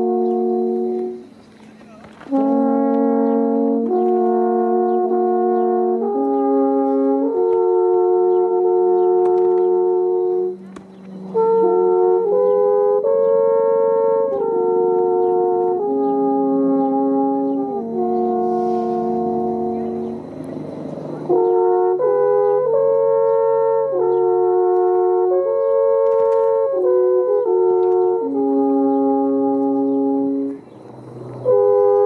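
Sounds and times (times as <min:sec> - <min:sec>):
slow brass chords: 0:00.0 - 0:32.0.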